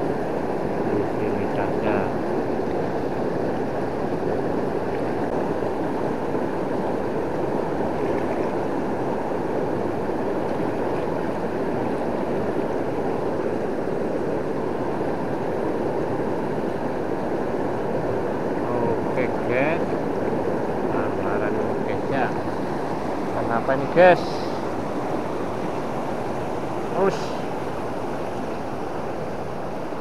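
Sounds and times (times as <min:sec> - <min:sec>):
river rushing in flood: 0:00.0 - 0:30.0.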